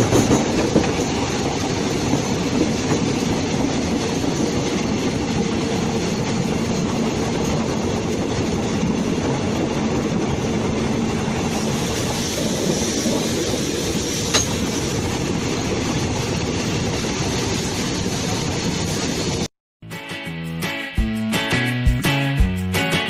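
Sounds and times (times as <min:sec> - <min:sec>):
train wheels rumbling on rail: 0:00.0 - 0:19.5.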